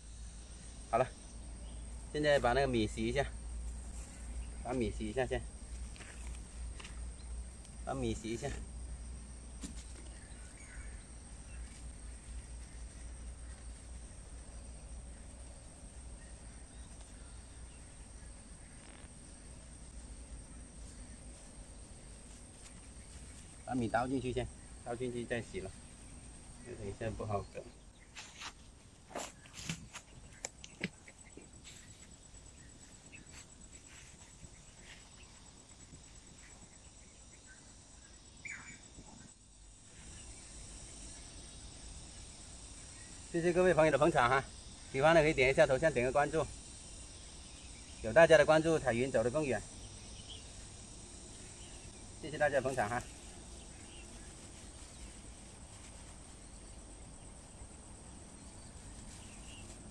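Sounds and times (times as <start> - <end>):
crickets chirping: 0.0 - 59.9
insect trill: 0.0 - 59.9.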